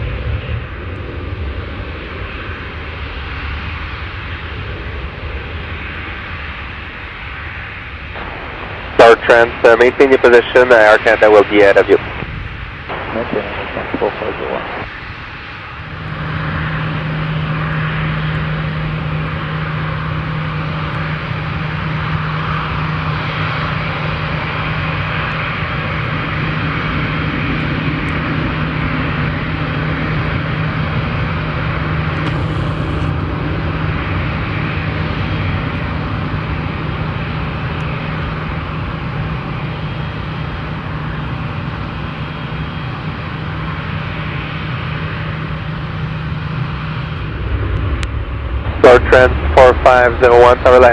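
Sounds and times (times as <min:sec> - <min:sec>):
jet engine rushing noise: 0:00.0 - 0:50.9
jet engines humming: 0:00.0 - 0:50.9.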